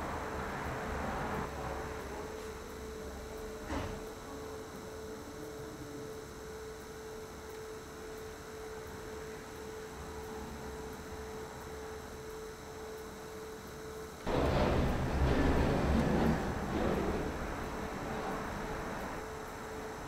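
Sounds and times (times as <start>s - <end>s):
pottery wheel motor hum: 0.0s - 20.0s.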